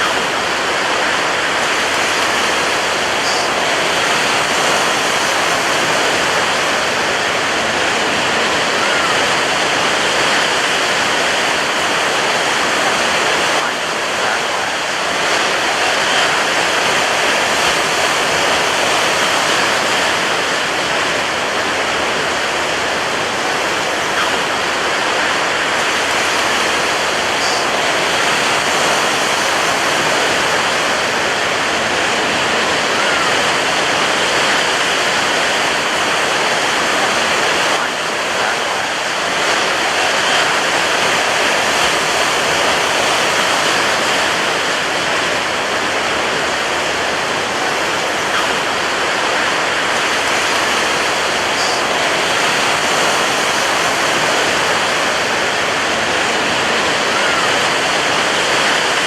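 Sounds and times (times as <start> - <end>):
ocean waves crashing: 0.0 - 59.0.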